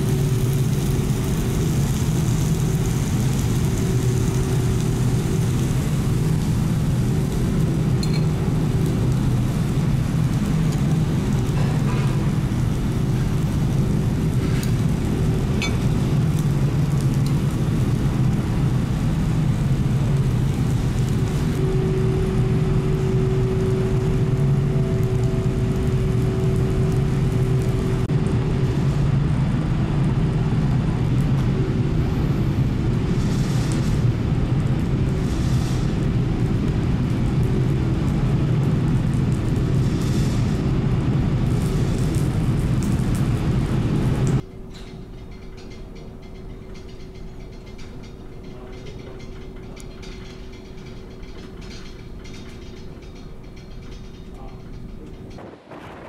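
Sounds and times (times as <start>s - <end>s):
ferry engine drone: 0.0s - 44.5s, 45.2s - 56.0s.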